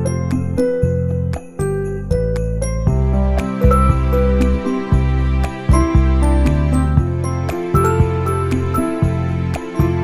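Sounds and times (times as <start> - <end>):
melody of held notes: 1.8 - 10.0
deep bass line: 1.9 - 10.0.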